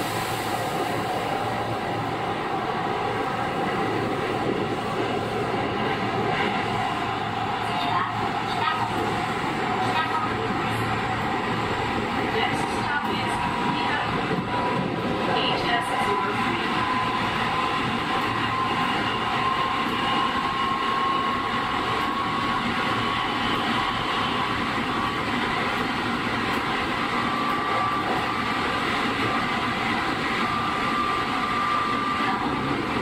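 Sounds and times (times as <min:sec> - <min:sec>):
wheels rumbling on rail: 0:00.0 - 0:33.0.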